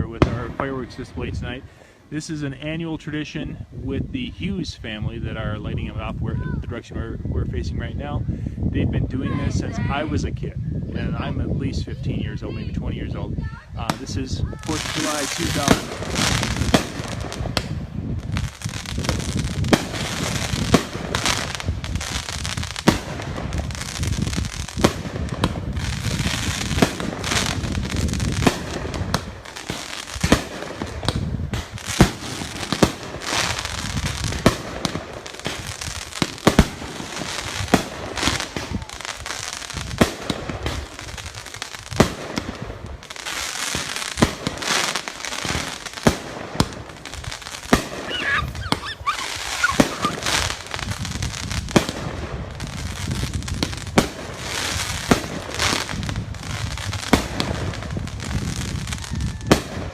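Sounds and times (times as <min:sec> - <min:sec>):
fireworks banging: 0:00.0 - 0:02.8, 0:13.5 - 0:59.9
fireworks crackling: 0:00.0 - 0:06.9, 0:11.2 - 0:59.9.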